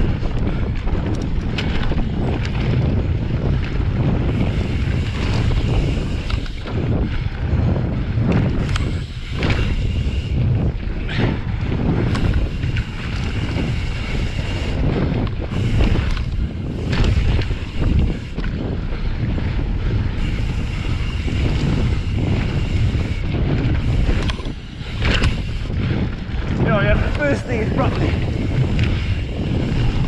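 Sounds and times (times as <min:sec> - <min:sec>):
bike knocks and rattles: 0:00.0 - 0:30.0
bike tyres rumbling: 0:00.0 - 0:30.0
wind buffeting microphone: 0:00.0 - 0:30.0.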